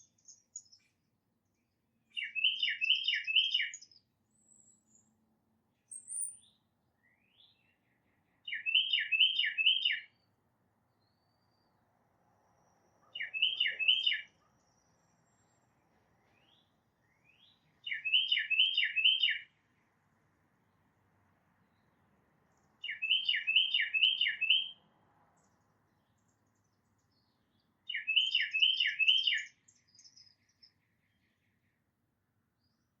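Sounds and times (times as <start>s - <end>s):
songbird singing: 0.0s - 33.0s.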